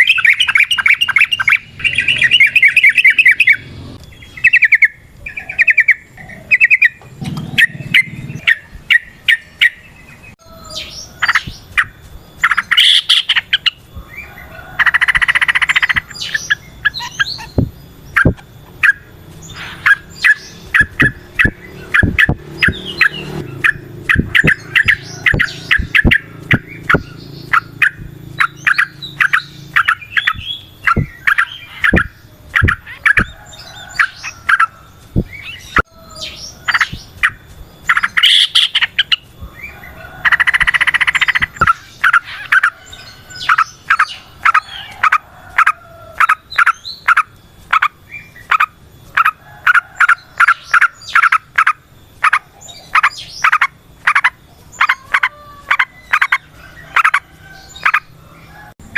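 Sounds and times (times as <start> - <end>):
bird singing rapid notes: 0.0 - 58.9
buzzy bird chatter: 0.0 - 58.9.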